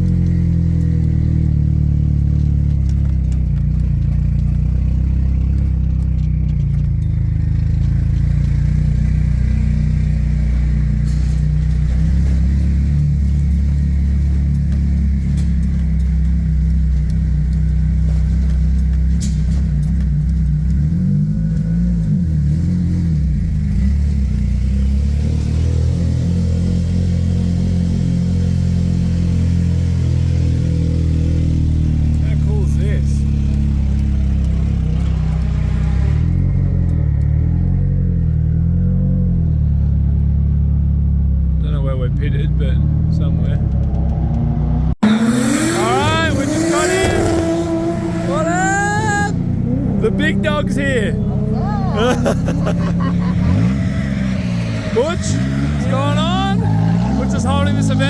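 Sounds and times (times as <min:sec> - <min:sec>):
car engine low drone: 0:00.0 - 0:58.0.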